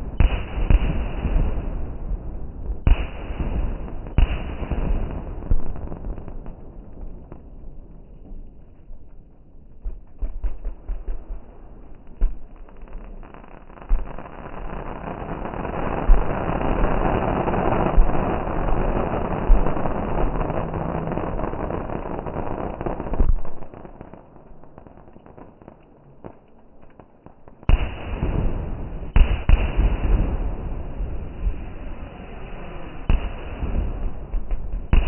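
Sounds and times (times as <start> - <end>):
fireworks crackling and booming: 0.0 - 35.0.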